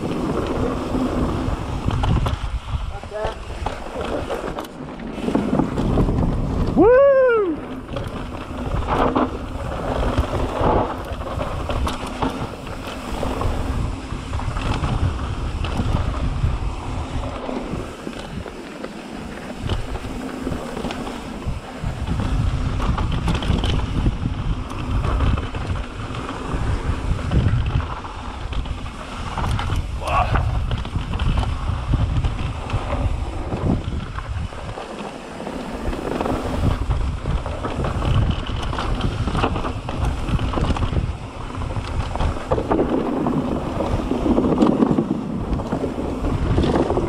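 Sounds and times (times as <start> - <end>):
bike clicks and rattles: 0.0 - 47.0
tyres rumbling on gravel: 0.0 - 47.0
wind buffeting microphone: 0.0 - 47.0.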